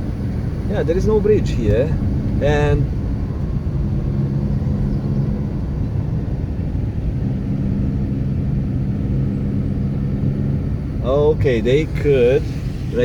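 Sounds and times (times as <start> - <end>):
car engine running: 0.0 - 13.0
tyres rumbling on road: 0.0 - 13.0.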